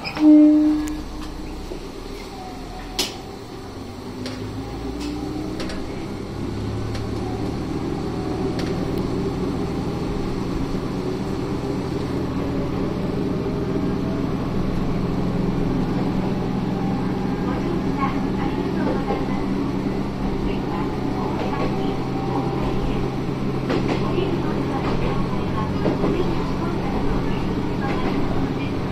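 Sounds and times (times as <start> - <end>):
railcar engine and running gear: 0.0 - 28.9.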